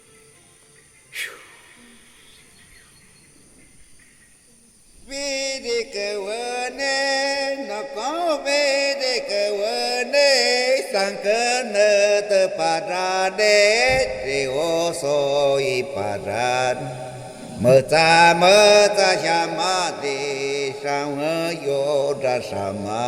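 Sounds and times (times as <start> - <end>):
person chanting healing song: 4.4 - 23.0.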